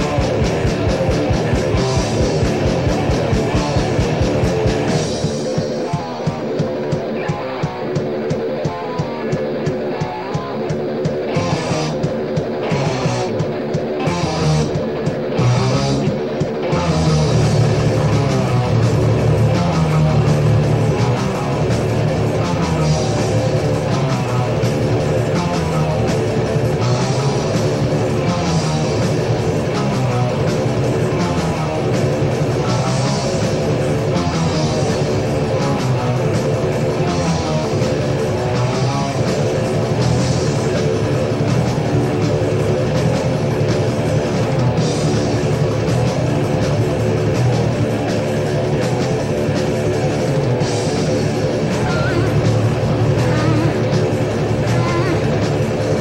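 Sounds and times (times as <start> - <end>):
bass guitar: 0.0 - 56.0
drums: 0.0 - 56.0
electric guitars: 0.0 - 56.0.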